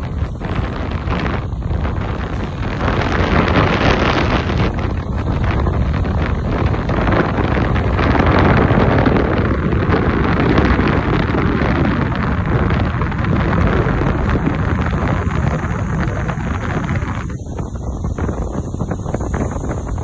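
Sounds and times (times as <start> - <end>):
car rumbling on a wet road: 0.0 - 20.0
wind buffeting a microphone: 0.0 - 20.0.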